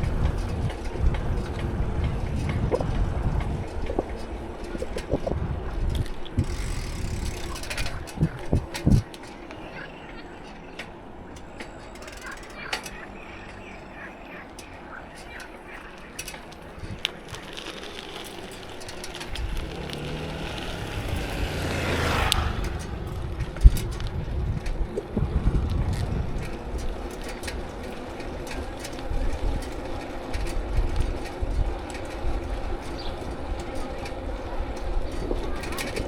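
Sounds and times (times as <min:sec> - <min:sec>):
road traffic rumble: 0:00.0 - 0:36.0
vehicle passing: 0:00.0 - 0:36.0.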